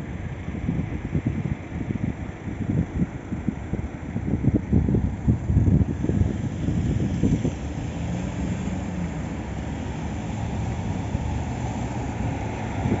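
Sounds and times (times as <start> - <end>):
city traffic rumble: 0.0 - 13.0
wind buffeting microphone: 0.0 - 13.0.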